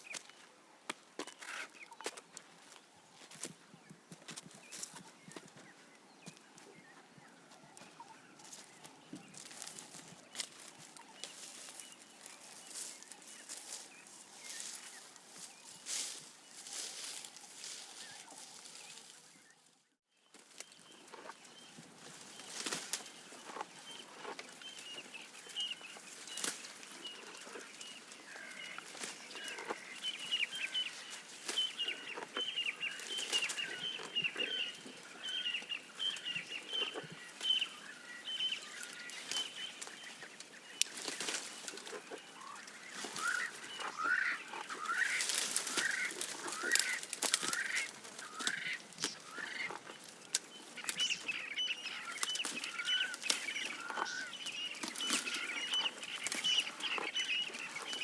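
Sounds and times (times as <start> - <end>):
birds chirping: 1.2 - 58.0.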